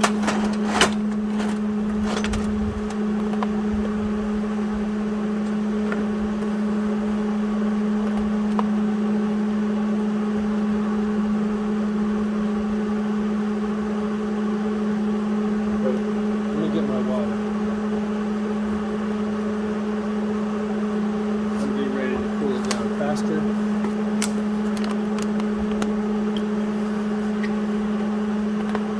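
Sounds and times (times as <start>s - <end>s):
electrical hum: 0.0s - 28.9s.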